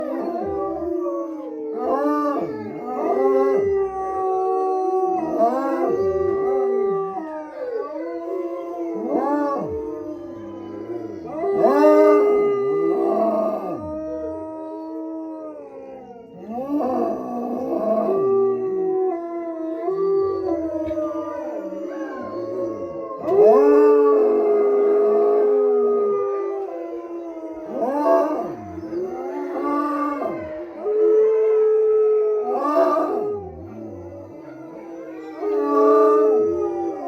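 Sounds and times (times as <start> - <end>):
wolfdogs howling: 0.0 - 37.0.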